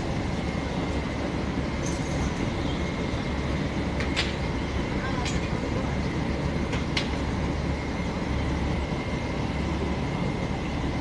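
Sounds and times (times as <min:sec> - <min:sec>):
rail vehicle rumbling on track: 0:00.0 - 0:11.0.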